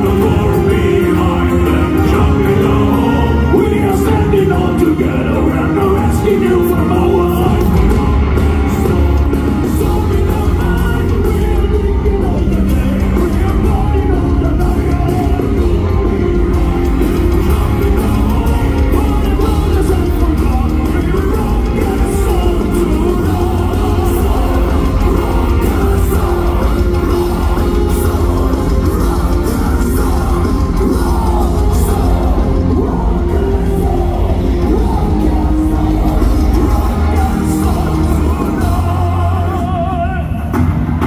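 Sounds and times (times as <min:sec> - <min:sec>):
live metal band playing: 0:00.0 - 0:41.0.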